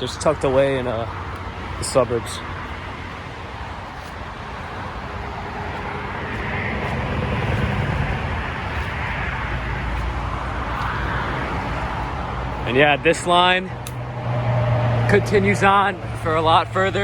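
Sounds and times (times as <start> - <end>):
highway traffic passing: 0.0 - 17.0.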